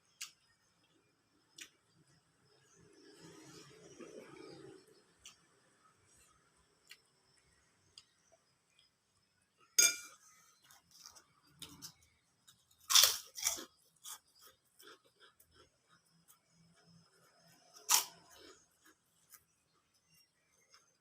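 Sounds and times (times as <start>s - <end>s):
crunchy chewing of food: 0.0s - 21.0s.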